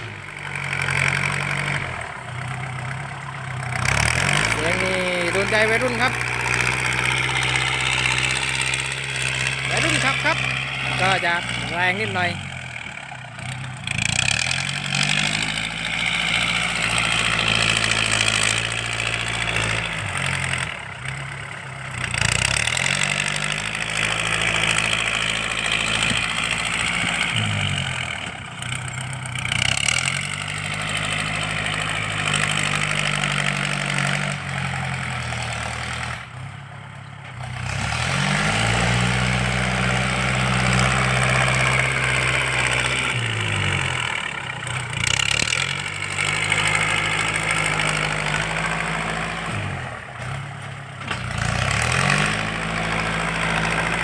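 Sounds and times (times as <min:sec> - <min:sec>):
tractor engine revving: 0:00.0 - 0:54.0.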